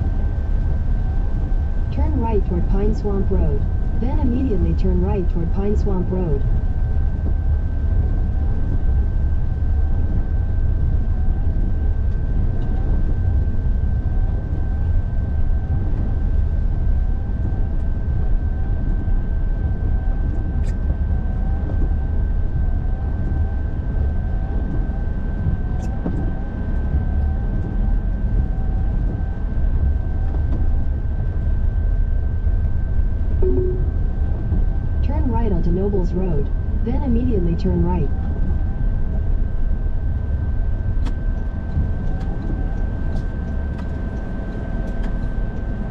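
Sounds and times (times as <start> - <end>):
thin steady whine: 0.0 - 45.9.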